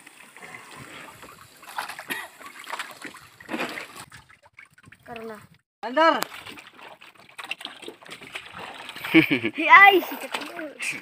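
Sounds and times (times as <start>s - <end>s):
water splashing: 0.0s - 11.0s
water trickling: 0.0s - 11.0s.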